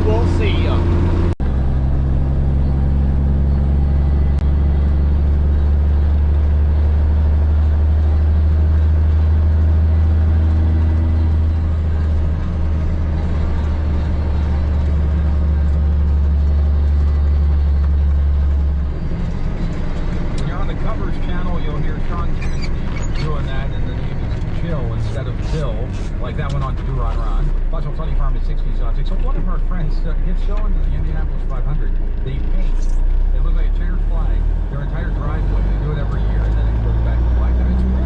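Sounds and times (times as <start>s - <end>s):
diesel truck engine droning: 0.0s - 38.0s.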